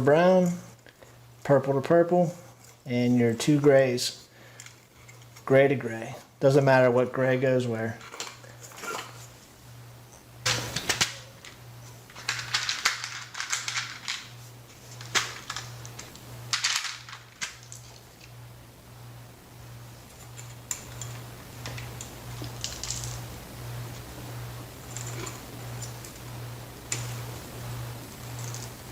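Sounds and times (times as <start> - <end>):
wires being twisted and rustling: 2.2 - 6.5, 7.9 - 18.5, 19.7 - 28.9.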